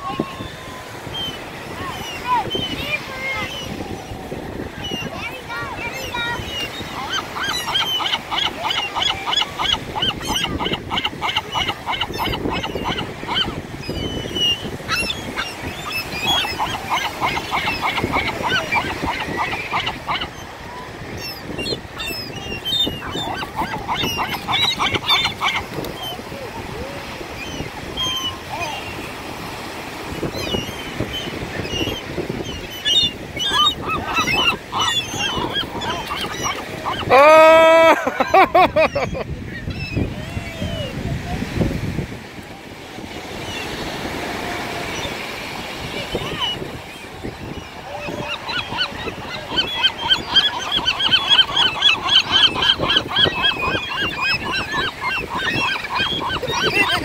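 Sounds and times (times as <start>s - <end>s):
gulls calling: 0.0s - 41.0s, 42.6s - 57.0s.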